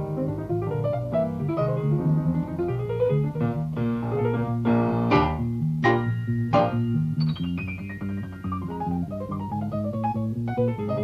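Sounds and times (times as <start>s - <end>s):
piano melody: 0.0s - 11.0s
walking bass line: 0.0s - 11.0s.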